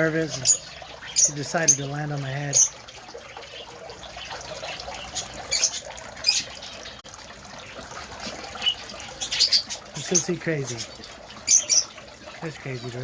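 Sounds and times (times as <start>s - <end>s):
small birds chattering: 0.0s - 7.0s, 7.6s - 13.0s.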